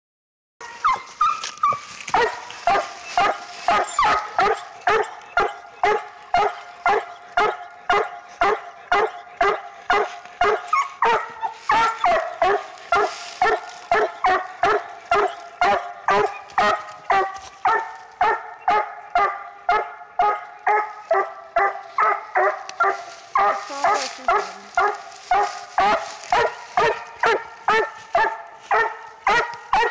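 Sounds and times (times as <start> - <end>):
puppy barking: 0.6 - 29.9.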